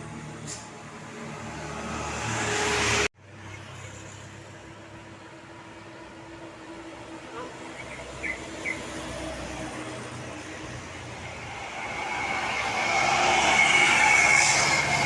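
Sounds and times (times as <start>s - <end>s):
bus passing by: 0.0s - 15.0s.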